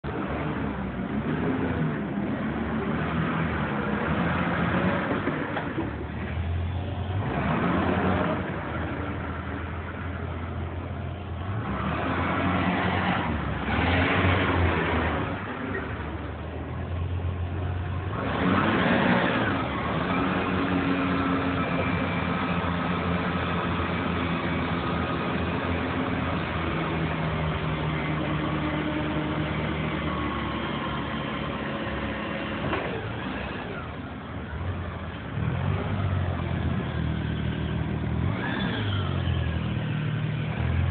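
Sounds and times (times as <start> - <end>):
forklift engine revving and idling: 0.0 - 40.9.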